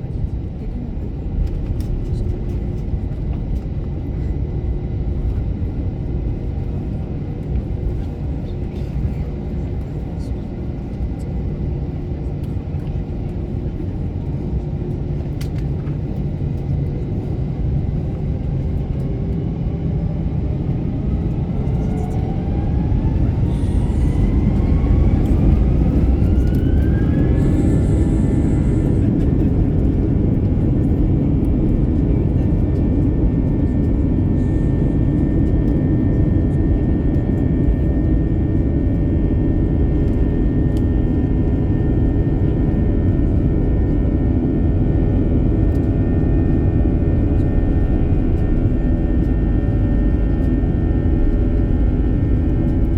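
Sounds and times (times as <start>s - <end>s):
jet engines roaring from cabin: 0.0s - 52.9s.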